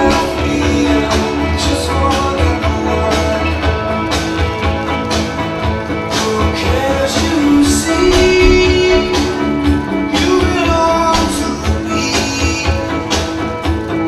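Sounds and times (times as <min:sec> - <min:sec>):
music with pulsing bass: 0:00.0 - 0:14.0.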